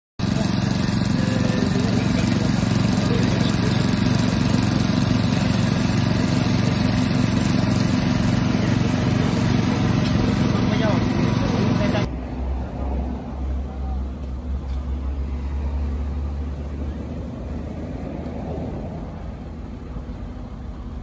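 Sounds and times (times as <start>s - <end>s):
small engine running: 0.2s - 12.1s, 13.9s - 21.0s.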